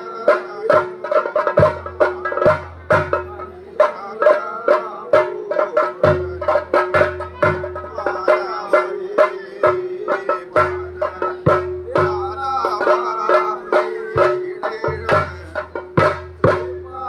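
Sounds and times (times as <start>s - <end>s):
drums struck in sharp strokes: 0.0s - 17.0s.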